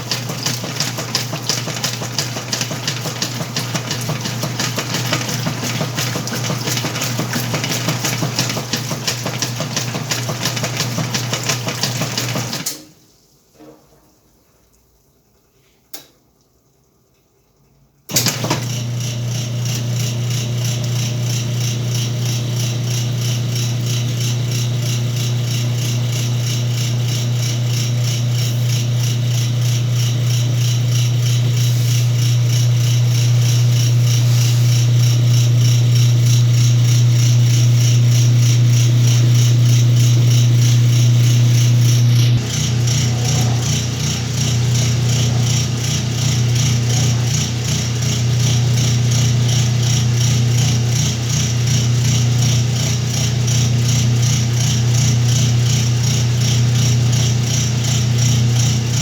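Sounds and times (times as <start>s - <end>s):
washing machine humming and rattling: 0.0s - 16.0s, 16.7s - 59.0s.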